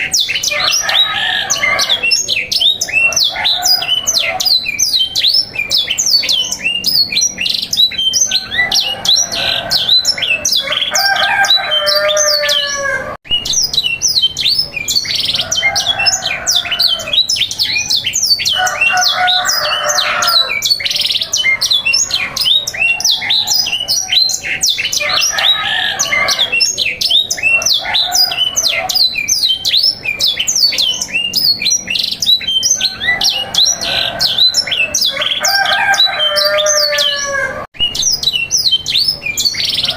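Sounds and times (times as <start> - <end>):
canaries singing: 0.0 - 39.9.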